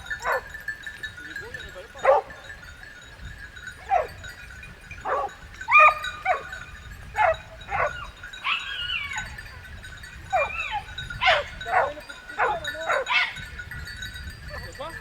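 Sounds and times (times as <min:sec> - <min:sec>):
hunting dogs yelping and baying: 0:00.0 - 0:15.0.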